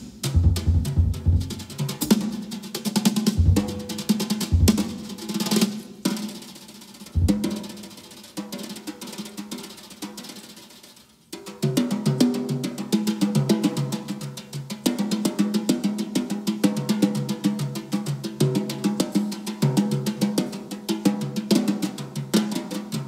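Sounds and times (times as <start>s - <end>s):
snare and tom strokes: 0.0s - 23.0s.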